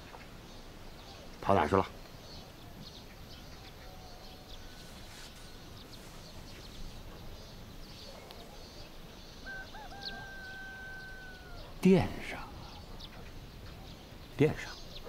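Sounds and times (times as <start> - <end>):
faint bird chirps: 0.0 - 15.0
steady low hiss: 0.0 - 15.0.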